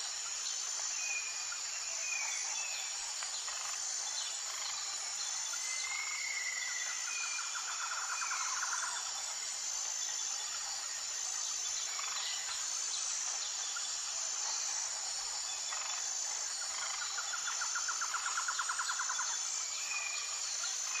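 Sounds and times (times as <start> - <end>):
high-pitched insect hum: 0.0 - 21.0.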